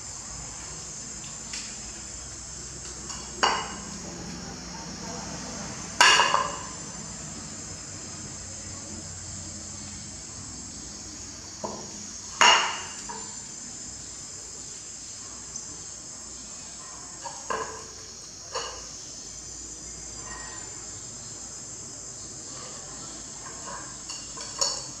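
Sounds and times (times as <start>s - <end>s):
insects chorus: 0.0s - 25.0s.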